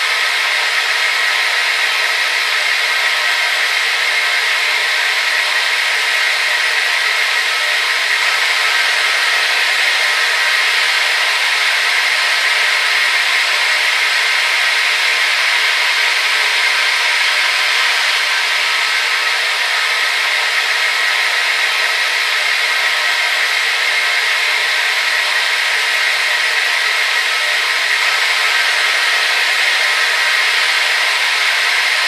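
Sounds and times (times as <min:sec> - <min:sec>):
hair dryer running: 0:00.0 - 0:32.0.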